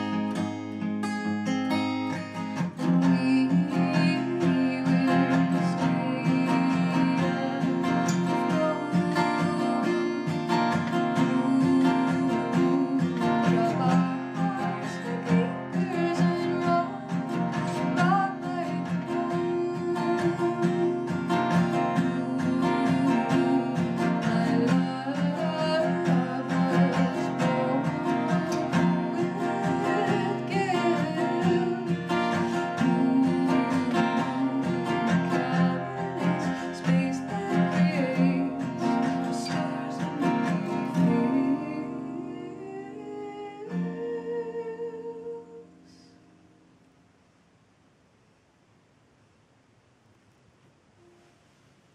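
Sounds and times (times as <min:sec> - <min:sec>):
acoustic guitar strummed: 0:00.0 - 0:46.8
woman singing: 0:02.1 - 0:46.2.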